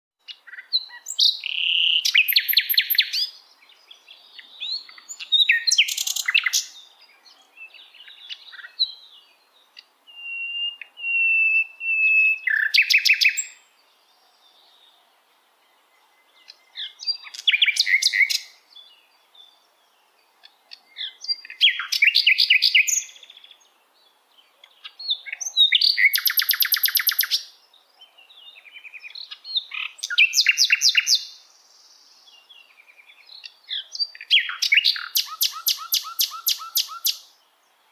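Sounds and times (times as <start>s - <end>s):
nightingale singing: 0.2s - 37.9s.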